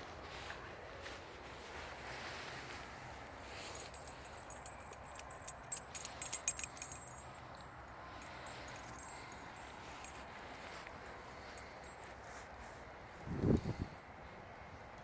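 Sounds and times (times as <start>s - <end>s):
light metallic jingling: 2.8s - 15.0s.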